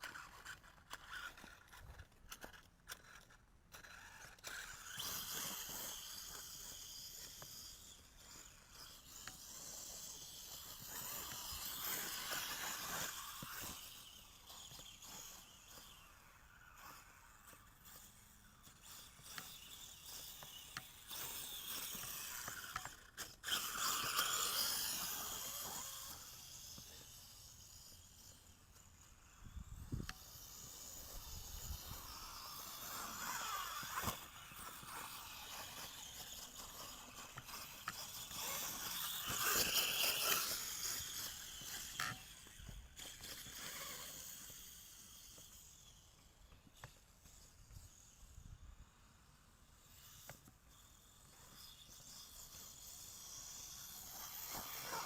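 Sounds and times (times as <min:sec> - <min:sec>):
rc truck electric motor whining: 0:00.0 - 0:55.0.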